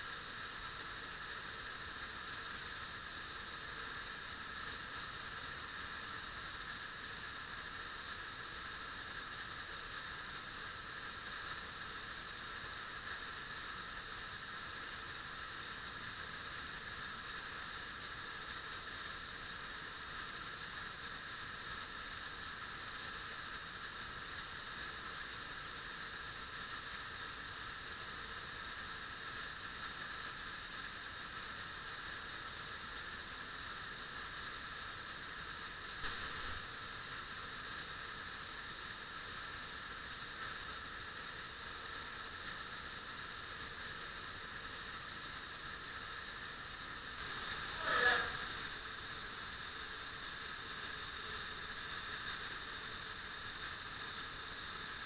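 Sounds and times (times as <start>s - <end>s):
waterfall hissing: 0.0s - 55.0s.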